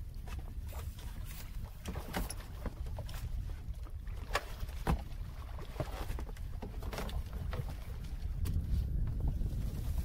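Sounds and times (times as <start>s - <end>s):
water slapping against hull: 0.0s - 10.0s
wind rumbling on microphone: 0.0s - 10.0s.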